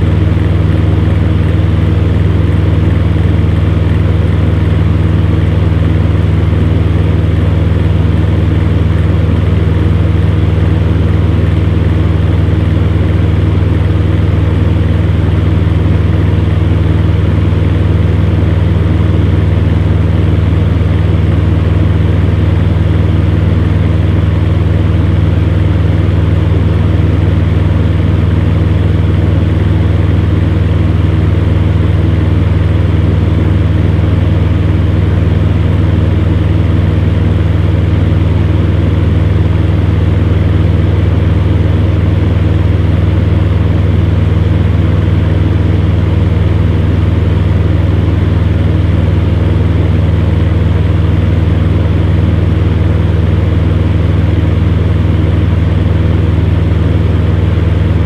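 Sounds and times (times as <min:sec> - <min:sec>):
fan heater running: 0:00.0 - 0:58.0.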